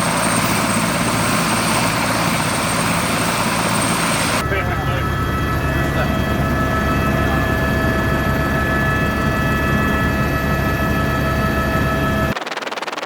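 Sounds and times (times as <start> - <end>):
helicopter rotor throb: 0.0 - 13.0
helicopter whining tones: 0.0 - 13.0.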